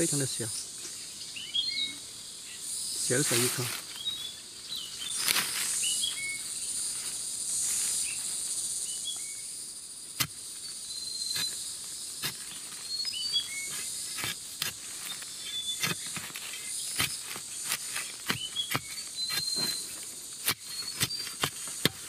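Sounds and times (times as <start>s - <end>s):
high insect buzz: 0.0s - 22.0s.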